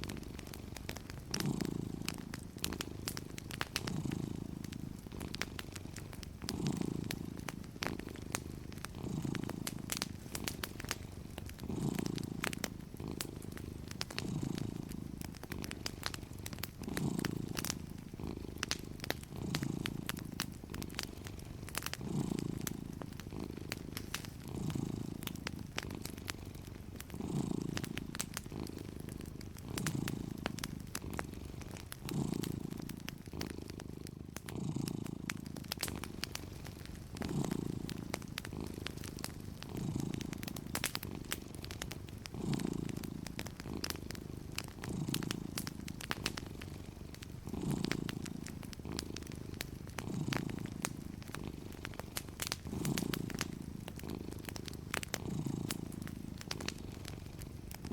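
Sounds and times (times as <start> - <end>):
cat purring: 0.0 - 57.9
fireplace crackling: 0.0 - 57.9.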